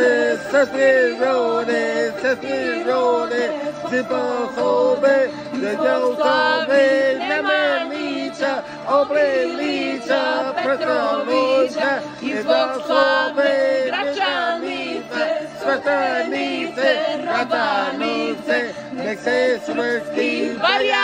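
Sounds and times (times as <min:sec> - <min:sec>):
man singing unaccompanied: 0:00.0 - 0:14.3, 0:15.0 - 0:21.0.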